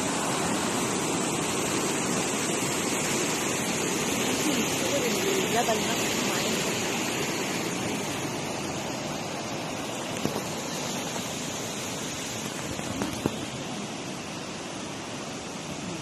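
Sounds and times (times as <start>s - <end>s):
river cascade rushing: 0.0s - 16.0s.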